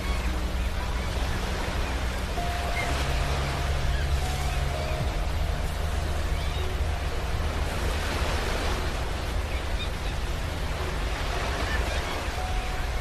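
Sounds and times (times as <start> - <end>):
ocean waves washing onto beach: 0.0 - 13.0.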